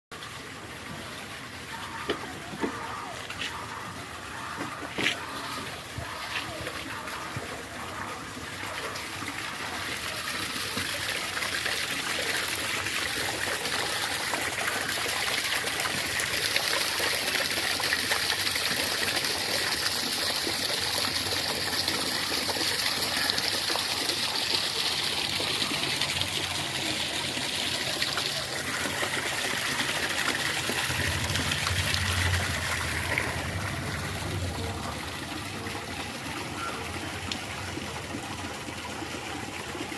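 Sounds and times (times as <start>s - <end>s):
water trickling in a drain: 0.1s - 39.9s.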